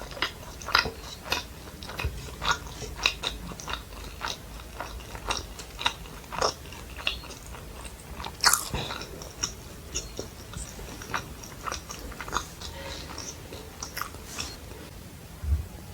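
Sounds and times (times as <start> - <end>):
person chewing food: 0.0 - 14.9.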